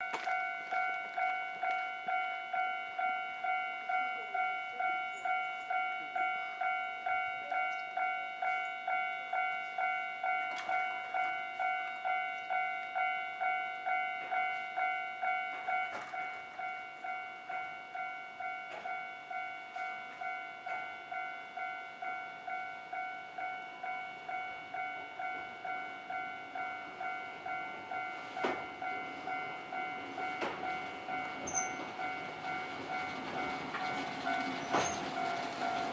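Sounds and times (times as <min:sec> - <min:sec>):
level crossing bell: 0:00.0 - 0:35.9.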